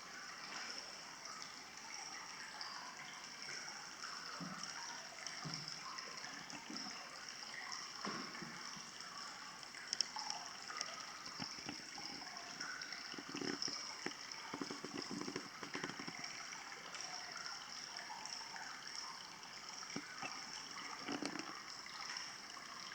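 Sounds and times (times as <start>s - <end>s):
water trickling and gurgling: 0.0s - 22.9s
small water splashes: 0.2s - 22.9s.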